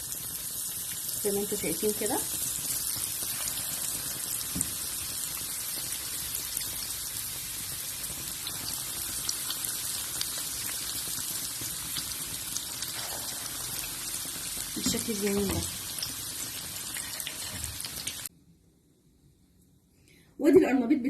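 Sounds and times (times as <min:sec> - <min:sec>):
food deep-frying in oil: 0:00.0 - 0:18.3.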